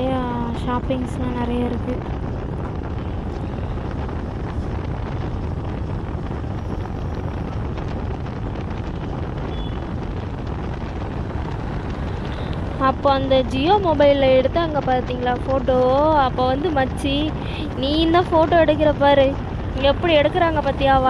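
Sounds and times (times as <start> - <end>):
vehicle rumble on road: 0.0 - 21.0
wind on microphone: 0.0 - 21.0.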